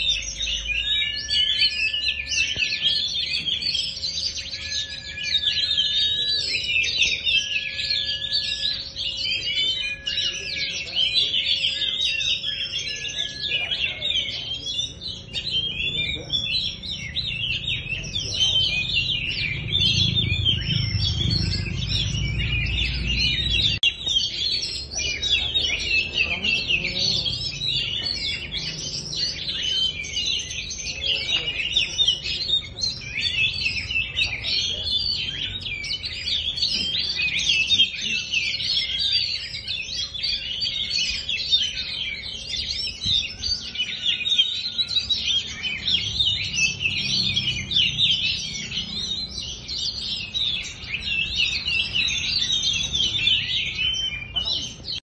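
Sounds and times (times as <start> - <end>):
birds singing chirps and whistles: 0.0 - 55.0.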